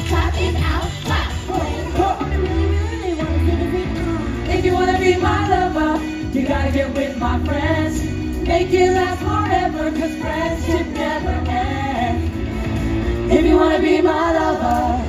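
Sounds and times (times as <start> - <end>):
music with steady bass beat: 0.0 - 15.0
person singing pop song: 0.0 - 15.0.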